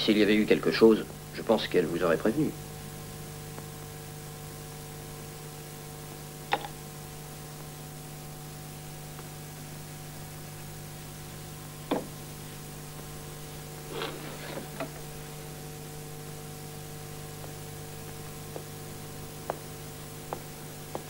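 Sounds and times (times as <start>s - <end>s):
mains hum: 0.0s - 21.0s
tape hiss: 0.0s - 21.0s.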